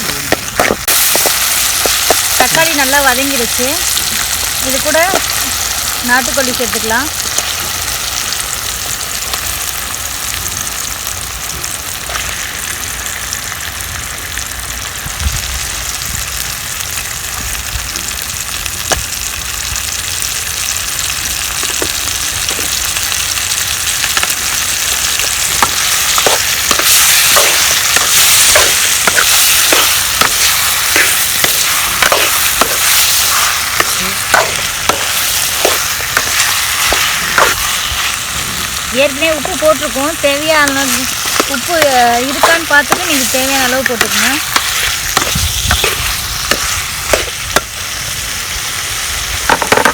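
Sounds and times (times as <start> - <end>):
meat sizzling in hot oil: 0.0 - 49.9.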